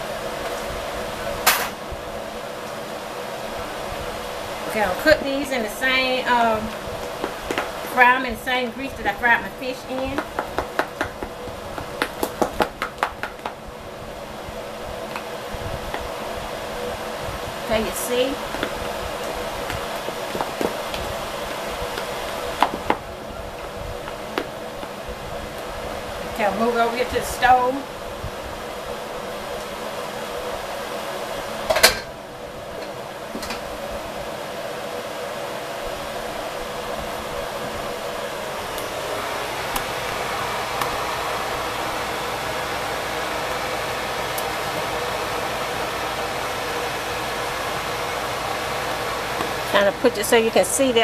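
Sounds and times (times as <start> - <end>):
steady whirring hum: 0.0 - 51.0.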